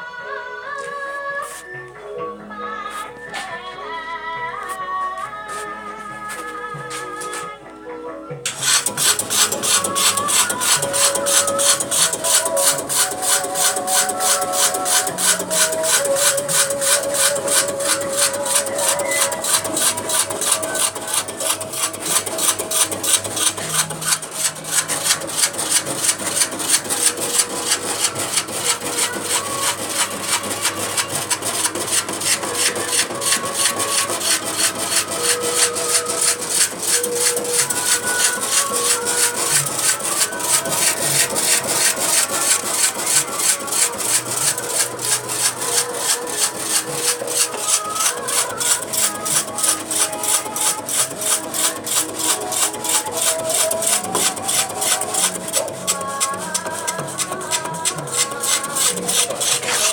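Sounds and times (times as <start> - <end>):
slicing machine blade rasping: 8.5 - 59.9.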